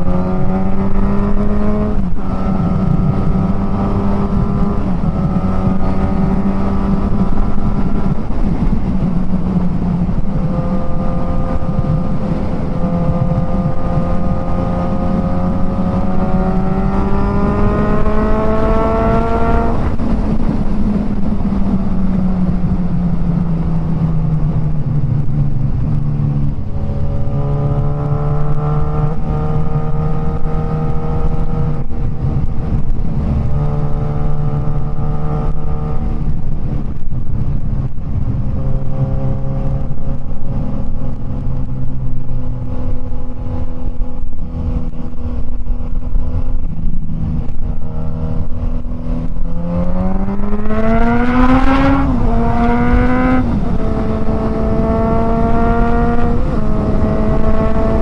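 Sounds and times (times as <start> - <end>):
motorcycle engine: 0.0 - 58.0
wind rush: 0.0 - 58.0.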